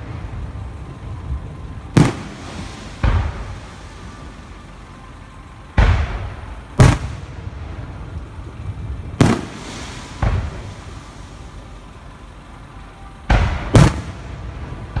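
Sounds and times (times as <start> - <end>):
fireworks booming: 0.0 - 15.0
low steady rumble: 0.0 - 15.0.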